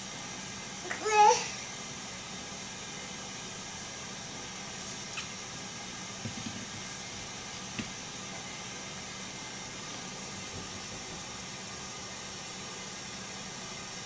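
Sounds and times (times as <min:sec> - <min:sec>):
room tone hiss: 0:00.0 - 0:14.0.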